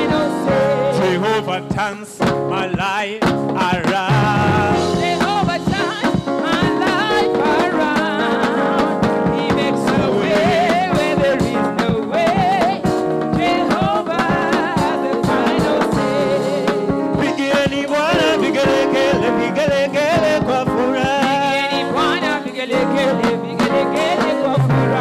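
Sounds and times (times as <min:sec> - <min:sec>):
gospel singer over microphone: 0:00.0 - 0:25.0
instrumental backing with beat: 0:00.0 - 0:25.0.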